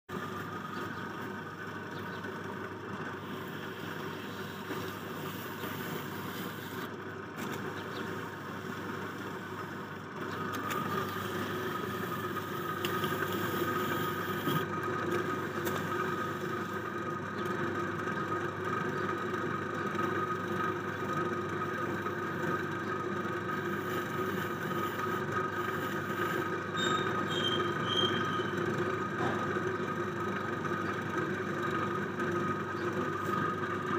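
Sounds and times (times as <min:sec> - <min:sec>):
potter's wheel motor humming: 0:00.1 - 0:33.9.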